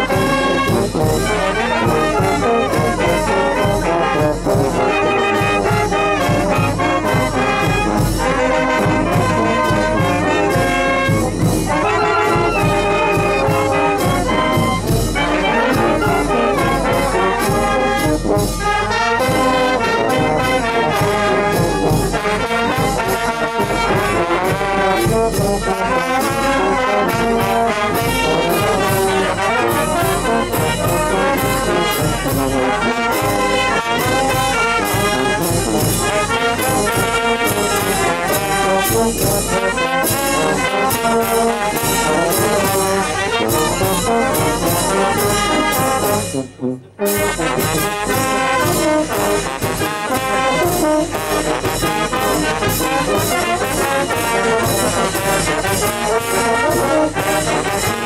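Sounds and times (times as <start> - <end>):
brass band playing: 0.0 - 58.0
steady drum beat: 0.0 - 58.0
trumpets and trombones: 0.0 - 58.0.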